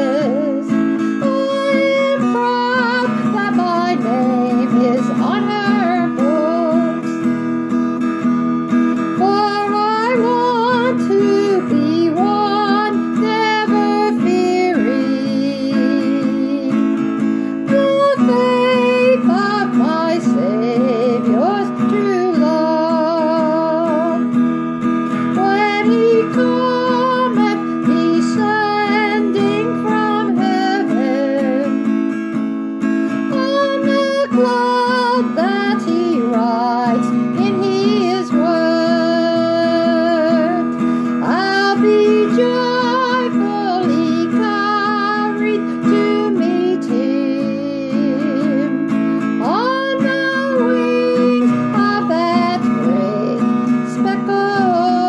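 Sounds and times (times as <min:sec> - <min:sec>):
acoustic guitar strumming: 0:00.0 - 0:55.0
woman singing: 0:00.0 - 0:55.0.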